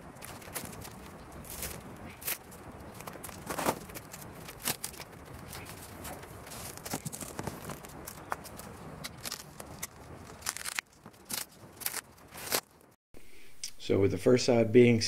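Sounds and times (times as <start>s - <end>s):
fiberglass panel crackling: 0.0s - 13.0s.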